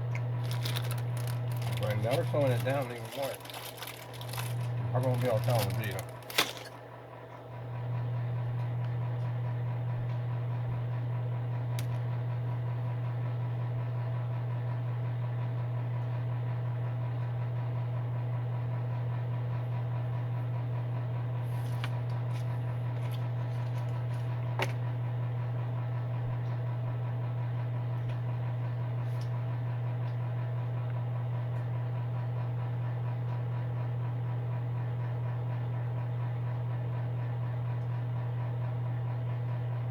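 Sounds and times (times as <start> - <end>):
space heater fan humming: 0.0 - 39.9.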